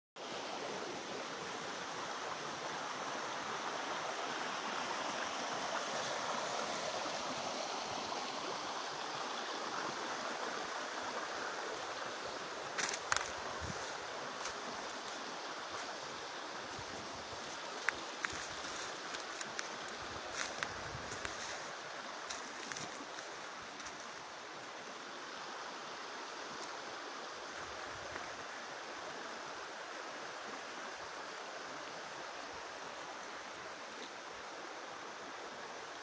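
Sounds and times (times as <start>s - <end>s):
mountain stream rushing: 0.2s - 36.0s.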